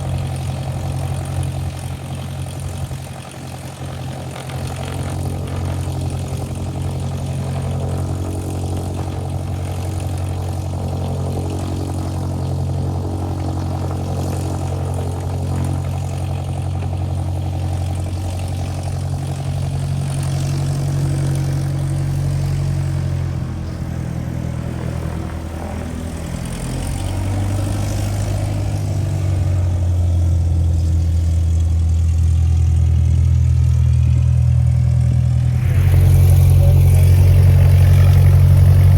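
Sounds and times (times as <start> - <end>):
propeller plane engine running: 0.0 - 38.9.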